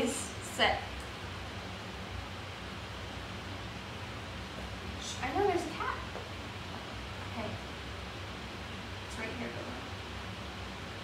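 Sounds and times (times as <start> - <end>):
faint hum: 0.0 - 11.0
steady low hiss: 0.0 - 11.0.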